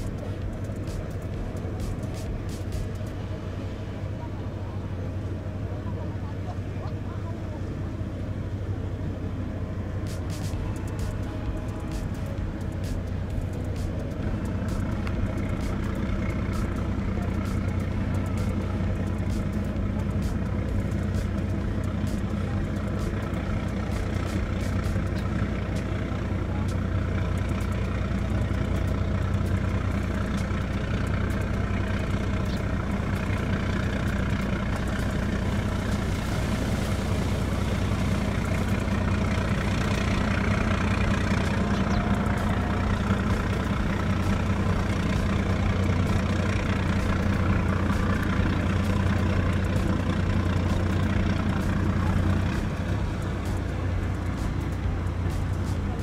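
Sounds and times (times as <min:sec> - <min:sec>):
ferry engines low drone: 0:00.0 - 0:56.0.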